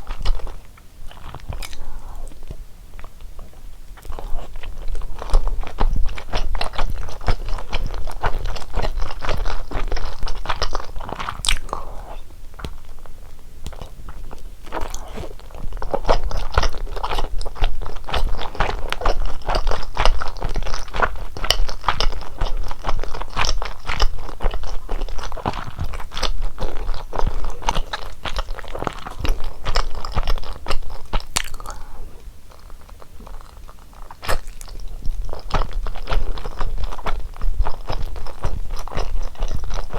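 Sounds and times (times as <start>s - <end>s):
chewing with wet clicks: 0.0s - 39.9s.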